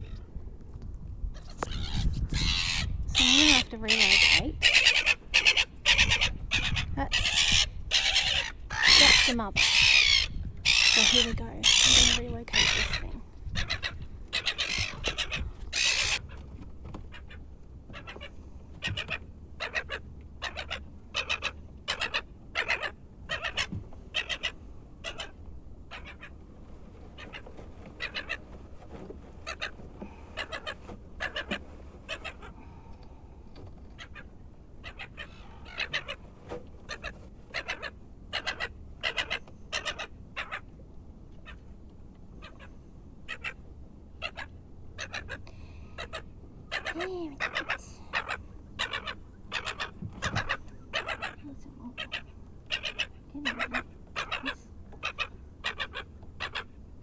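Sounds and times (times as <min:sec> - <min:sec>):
gulls calling: 0:01.4 - 0:26.4, 0:27.1 - 0:28.6, 0:29.4 - 0:32.6, 0:33.6 - 0:40.7, 0:41.4 - 0:56.9.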